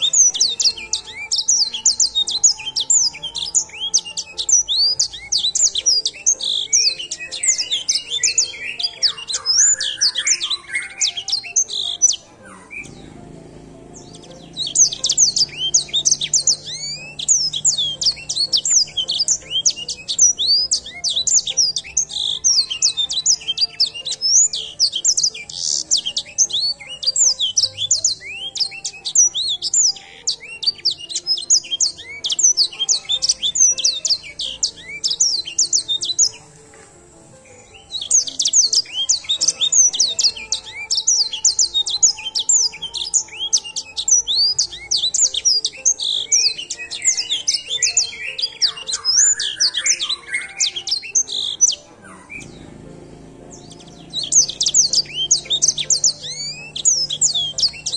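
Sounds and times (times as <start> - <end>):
finch singing high chirps and trills: 0.0 - 57.9.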